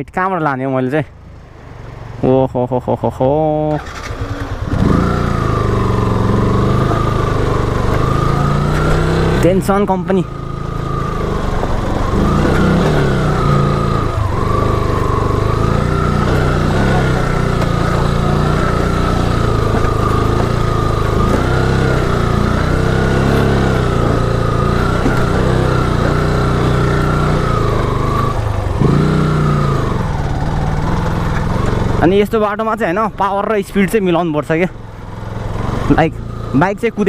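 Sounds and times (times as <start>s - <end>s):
motorcycle engine revving: 3.5s - 37.0s.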